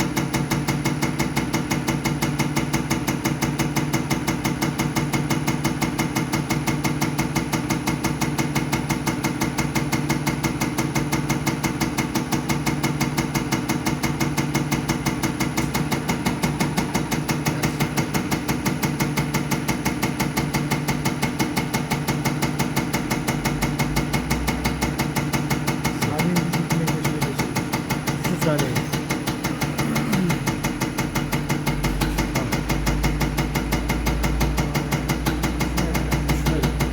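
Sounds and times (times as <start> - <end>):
rapid ticking of pump strokes: 0.0 - 36.9
steady motor hum: 0.0 - 36.9.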